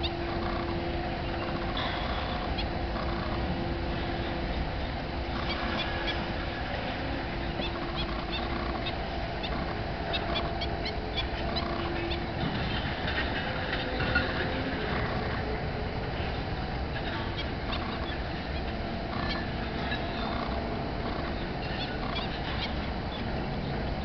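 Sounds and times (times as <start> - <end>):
faint steady hum: 0.0 - 24.0
low background rumble: 0.0 - 24.0.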